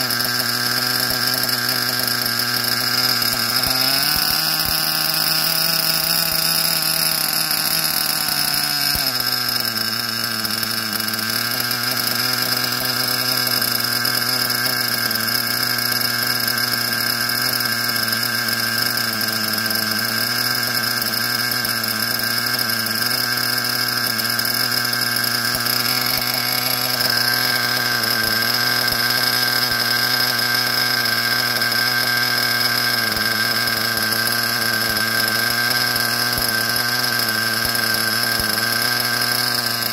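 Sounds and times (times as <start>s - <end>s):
nitro model engine running: 0.0s - 39.9s.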